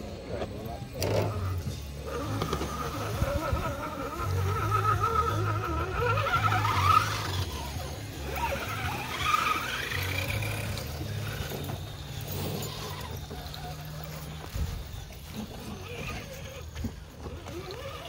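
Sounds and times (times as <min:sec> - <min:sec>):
electric motor and gears whining: 0:00.0 - 0:18.0.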